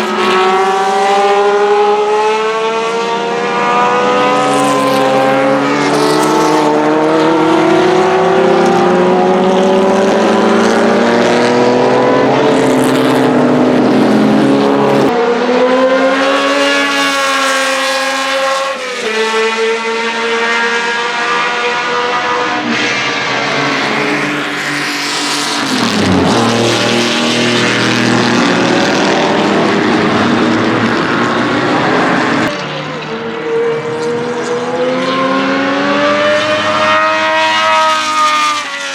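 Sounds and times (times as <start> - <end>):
racing car engine accelerating: 0.0 - 38.9.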